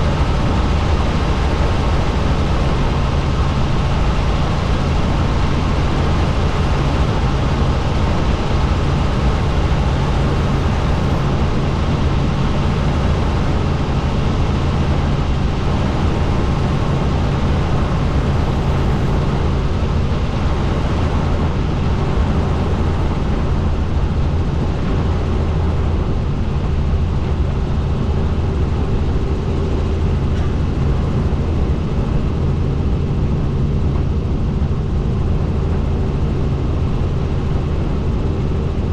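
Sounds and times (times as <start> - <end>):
helicopter rotor and engine drone: 0.0 - 38.9
low hum: 0.0 - 38.9.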